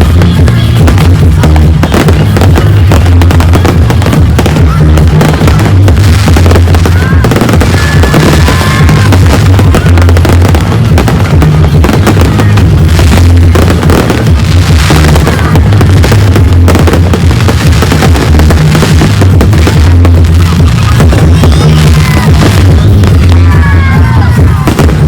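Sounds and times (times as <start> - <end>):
fireworks crackling and banging: 0.0 - 25.0
loud music with heavy bass: 0.0 - 25.0.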